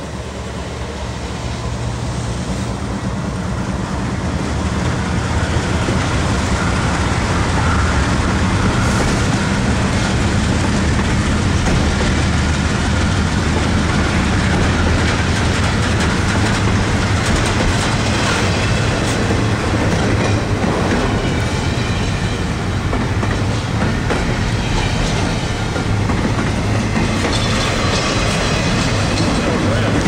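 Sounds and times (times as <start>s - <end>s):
freight train wheels rumbling: 0.0s - 30.0s
wheels clacking over rail joints: 5.0s - 30.0s.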